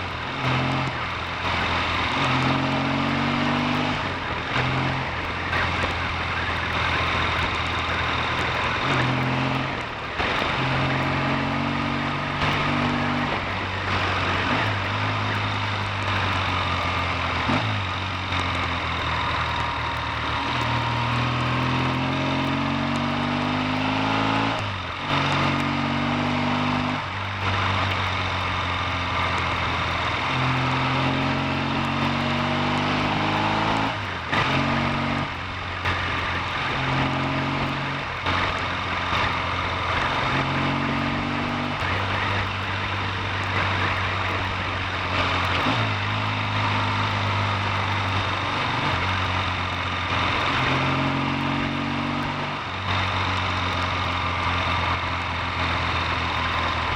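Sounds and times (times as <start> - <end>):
motorcycle engine changing gears: 0.0 - 56.9
steady rushing noise: 0.0 - 56.9.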